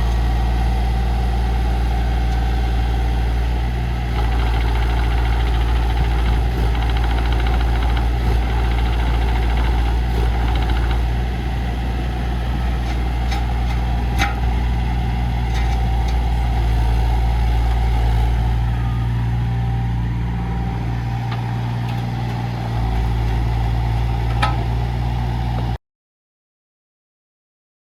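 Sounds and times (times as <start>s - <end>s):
mini excavator diesel engine: 0.0s - 25.8s.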